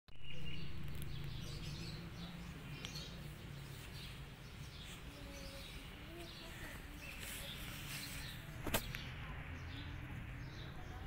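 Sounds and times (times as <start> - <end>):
faint bird chirps: 0.1 - 10.0.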